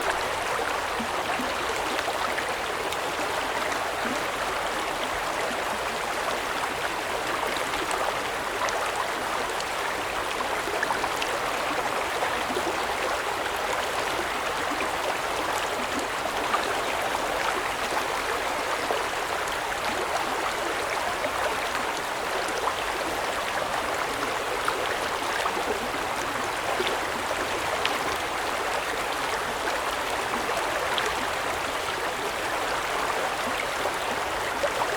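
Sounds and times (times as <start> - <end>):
stream water babbling over stones: 0.0 - 34.9.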